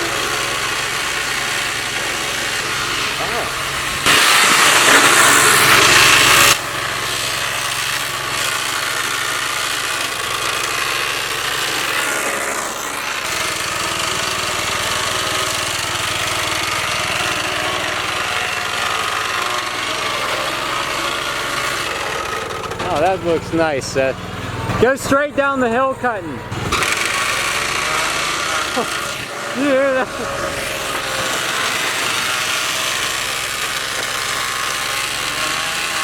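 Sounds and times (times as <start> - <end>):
riding lawn mower running: 0.0 - 36.0.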